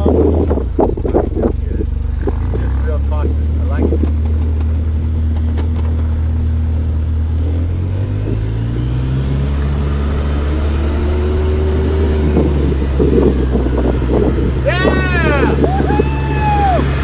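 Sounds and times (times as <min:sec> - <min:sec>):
quad engine droning: 0:00.0 - 0:17.0.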